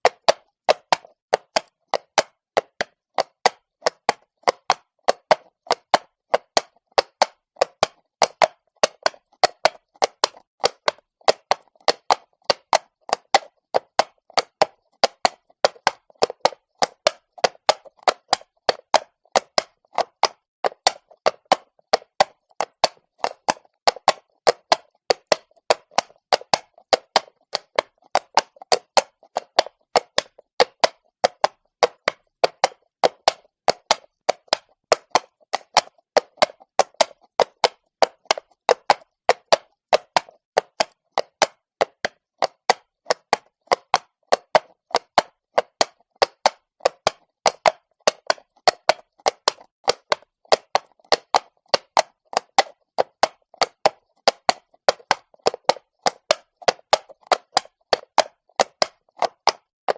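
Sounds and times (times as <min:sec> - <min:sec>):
horse hooves on cobblestones: 0:00.1 - 0:59.9.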